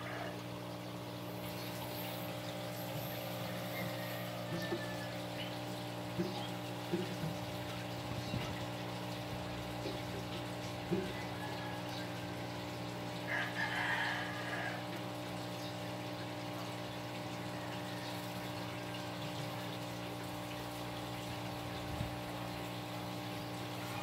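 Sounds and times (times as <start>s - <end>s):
pump humming: 0.0s - 24.0s.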